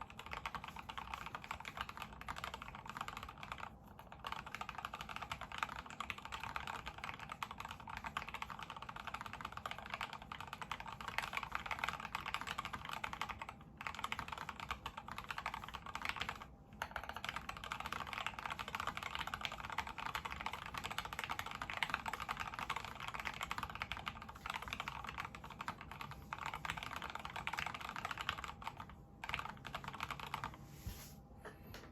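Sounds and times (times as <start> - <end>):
typing on mechanical keyboard: 0.0 - 30.6.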